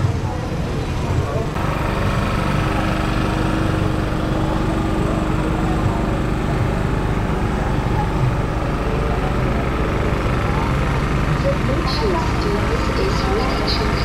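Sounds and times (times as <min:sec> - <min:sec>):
small engine running: 0:01.4 - 0:14.0.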